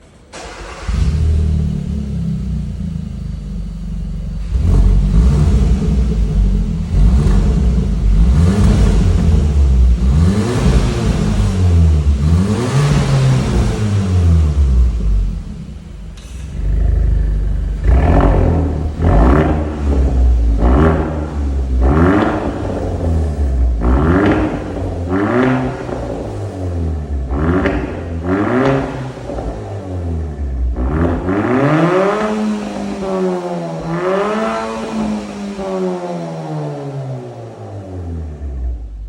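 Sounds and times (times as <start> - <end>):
car engine revving: 0.3 - 39.0.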